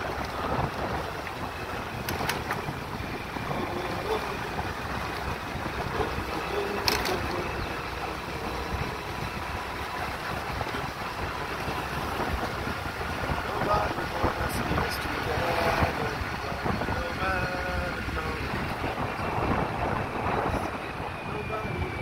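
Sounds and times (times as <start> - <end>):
road noise: 0.0 - 22.0
scooter engine running: 0.0 - 22.0
wind on microphone: 0.0 - 22.0.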